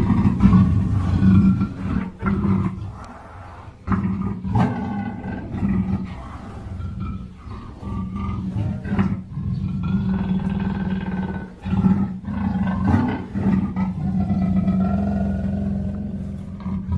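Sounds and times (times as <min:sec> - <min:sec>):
leopard growling and roaring: 0:00.0 - 0:16.9.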